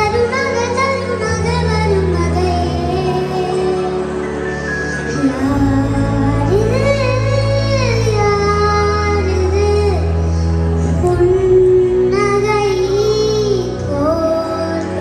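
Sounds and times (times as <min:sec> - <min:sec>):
girl singing into a microphone: 0:00.0 - 0:04.1, 0:05.1 - 0:15.0
instrumental accompaniment: 0:00.0 - 0:15.0
low bass notes: 0:00.0 - 0:15.0.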